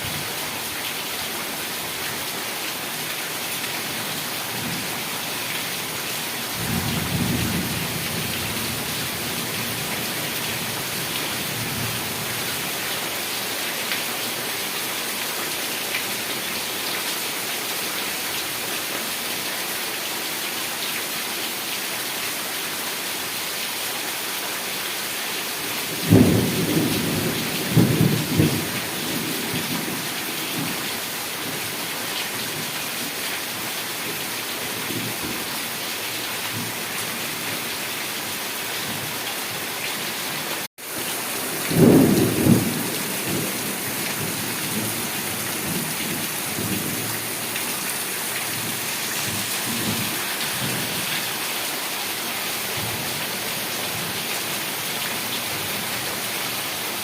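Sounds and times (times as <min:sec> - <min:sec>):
heavy rain hissing: 0:00.0 - 0:19.4, 0:20.1 - 0:57.0.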